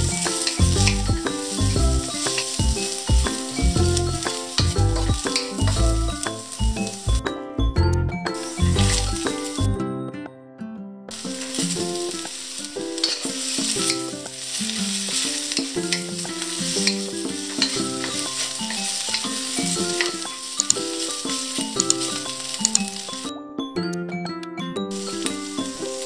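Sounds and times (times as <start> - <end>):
vegetables sizzling in a wok: 0.0 - 7.2, 8.4 - 9.7, 11.1 - 23.3, 24.9 - 26.0
wooden spatula scraping and tapping: 0.0 - 7.2, 8.4 - 9.7, 11.1 - 23.3, 25.0 - 26.0
background music: 0.0 - 26.0.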